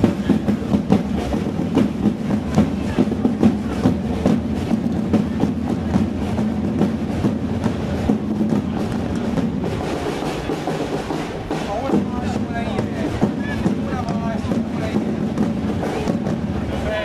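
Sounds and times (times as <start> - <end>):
procession drums beating: 0.0 - 17.0.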